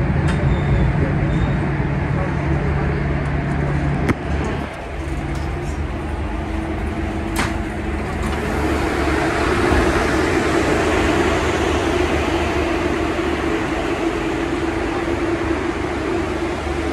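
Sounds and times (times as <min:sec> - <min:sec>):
subway train hum and hiss: 0:00.0 - 0:16.9.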